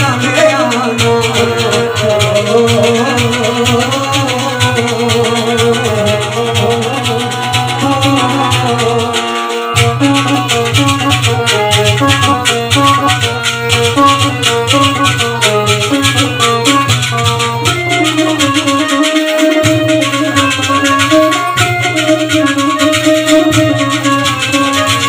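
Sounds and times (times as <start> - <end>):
folk melody instrument: 0.0 - 25.0
rattling percussion: 0.0 - 25.0.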